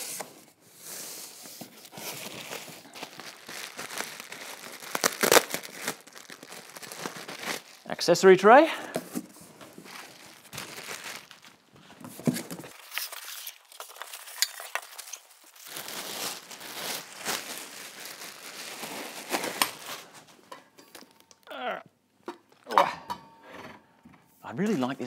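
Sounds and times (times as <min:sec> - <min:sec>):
plastic wrapping crinkling: 0:01.4 - 0:21.5.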